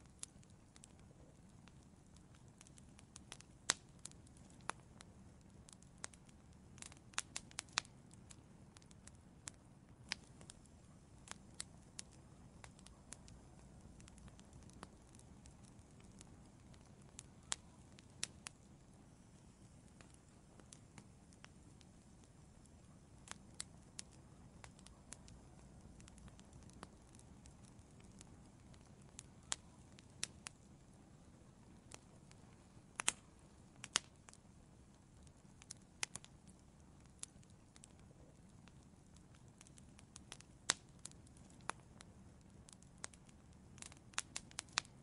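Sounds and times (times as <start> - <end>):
faint low rumble: 0.0 - 45.0
wood fire crackling and popping: 0.0 - 45.0.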